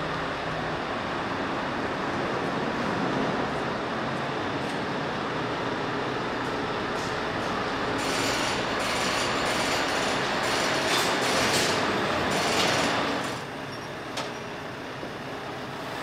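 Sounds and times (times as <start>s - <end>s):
truck-wash machinery running: 0.0s - 16.0s.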